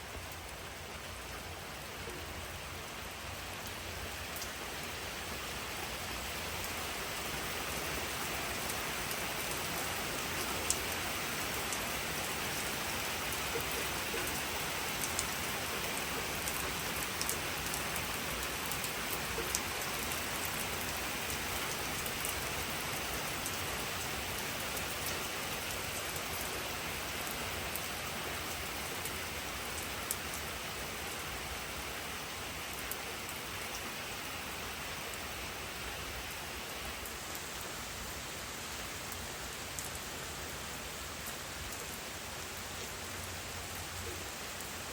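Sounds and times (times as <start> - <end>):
rain falling: 0.0 - 44.9.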